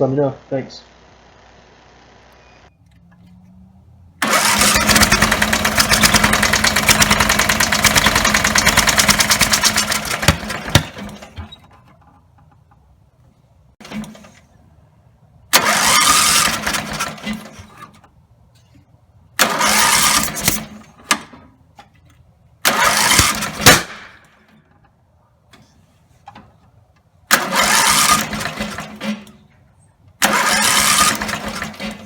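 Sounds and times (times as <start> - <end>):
mower engine cranking and running: 2.4 - 32.0.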